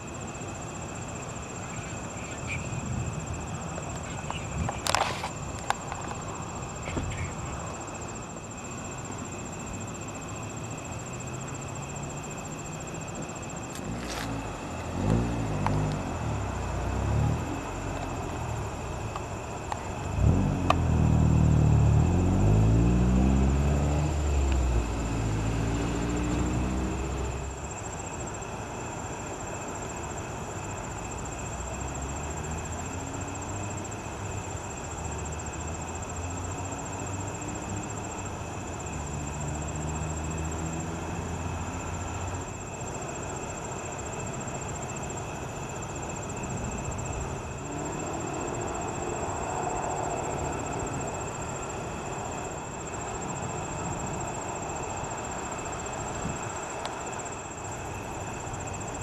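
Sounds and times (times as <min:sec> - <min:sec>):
low rumbles outdoors: 0:00.3 - 0:29.0, 0:29.8 - 0:59.0.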